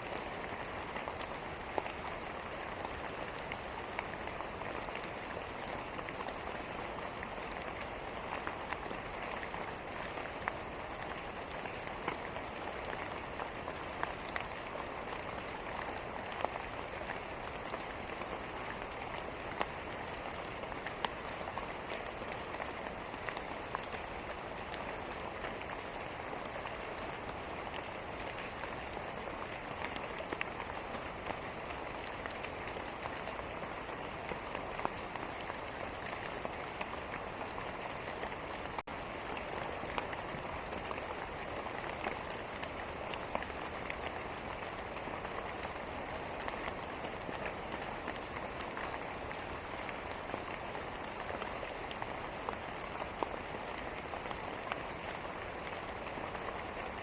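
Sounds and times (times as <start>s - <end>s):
raindrops ticking on a surface: 0.0s - 57.0s
steady rain hiss: 0.0s - 57.0s.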